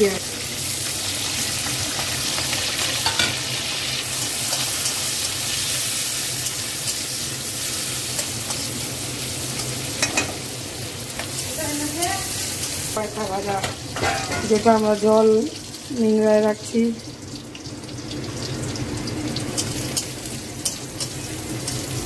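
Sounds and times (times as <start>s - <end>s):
onion sizzling in hot oil: 0.0s - 22.0s.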